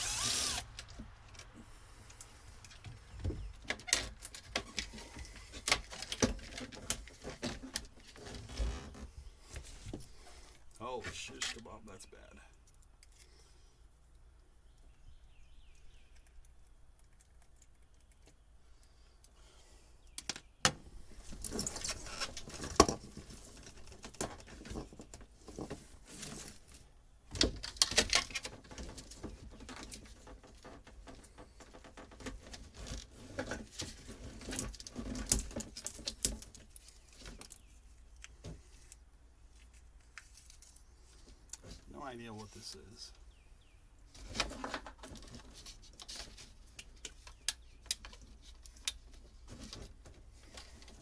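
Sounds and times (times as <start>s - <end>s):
hands handling wiring: 0.1s - 11.7s, 12.5s - 14.2s, 20.1s - 41.9s, 44.0s - 51.0s.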